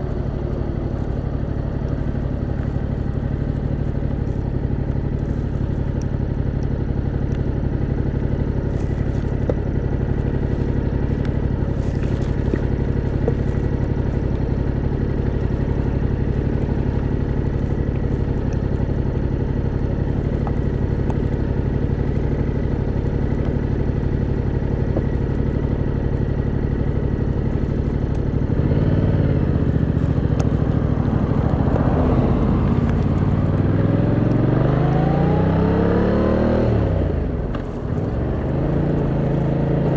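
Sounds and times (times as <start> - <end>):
motorcycle engine idling: 0.0 - 39.9
motorcycle revving pulling away: 0.0 - 39.9.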